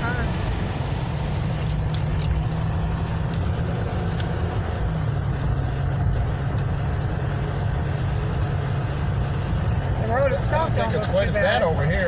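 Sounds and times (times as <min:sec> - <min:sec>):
engine and tyre hum: 0:00.0 - 0:12.0.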